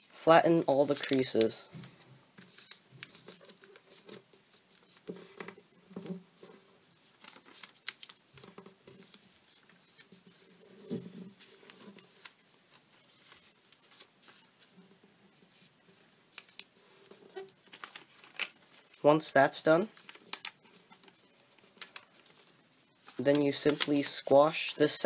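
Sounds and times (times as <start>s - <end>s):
paper crackling and rustling: 0.6s - 19.1s, 19.8s - 25.0s.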